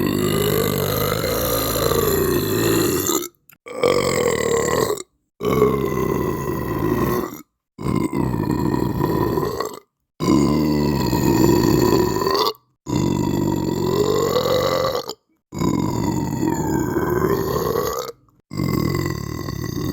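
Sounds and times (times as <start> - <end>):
person belching: 0.0 - 19.9.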